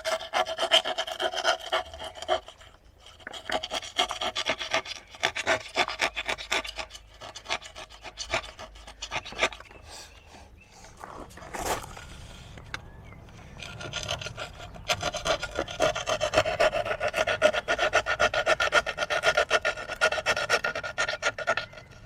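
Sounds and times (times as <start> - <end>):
hand tool rasping: 0.0 - 10.2, 10.9 - 22.0.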